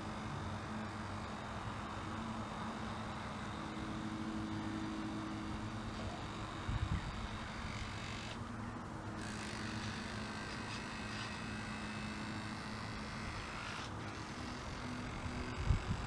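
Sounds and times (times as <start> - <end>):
small electric motor humming: 0.0 - 16.0.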